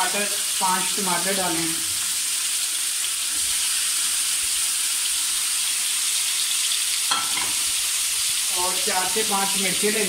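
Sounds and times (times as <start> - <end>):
chicken frying in pot: 0.0 - 10.0.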